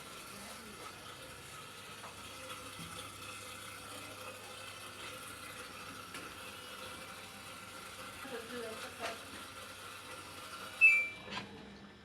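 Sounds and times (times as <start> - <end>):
water running in washing machine: 0.0 - 12.0.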